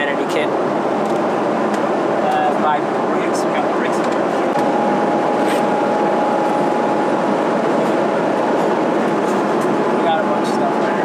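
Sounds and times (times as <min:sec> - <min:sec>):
airliner cabin rushing hum: 0:00.0 - 0:11.0
thin steady whine: 0:00.2 - 0:11.0.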